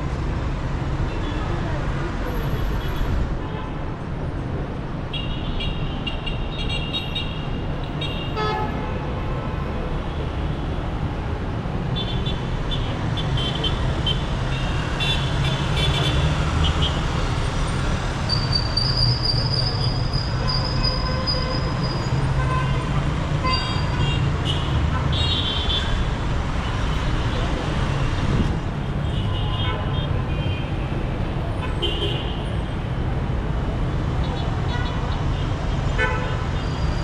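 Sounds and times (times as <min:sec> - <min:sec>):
traffic engines rumbling: 0:00.0 - 0:37.0.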